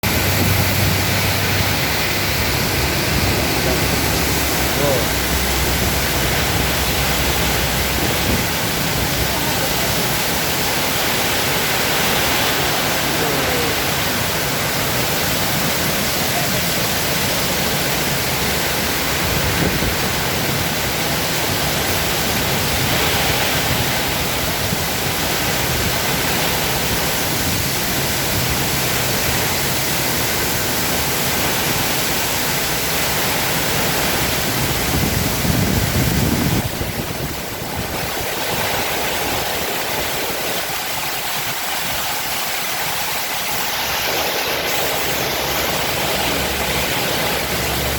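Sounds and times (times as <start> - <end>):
strong wind: 0.0 - 47.9
torrential rain hissing: 0.0 - 47.9.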